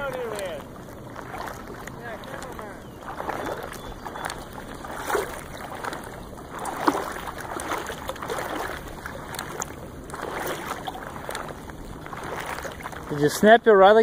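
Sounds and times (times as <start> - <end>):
river water sloshing and splashing: 0.0 - 14.0.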